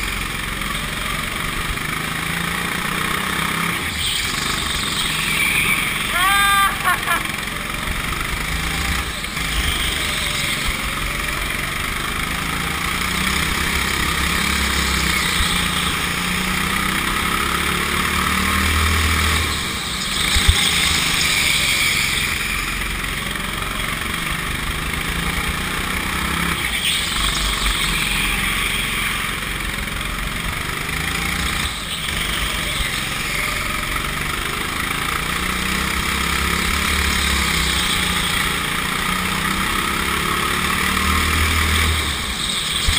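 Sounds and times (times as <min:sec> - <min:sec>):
go-kart engine running: 0:00.0 - 0:42.9.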